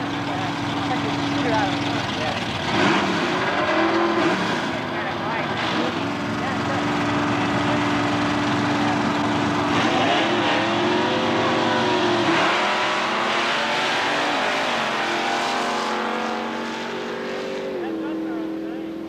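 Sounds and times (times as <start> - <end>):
drag racing engines revving: 0.0 - 19.0.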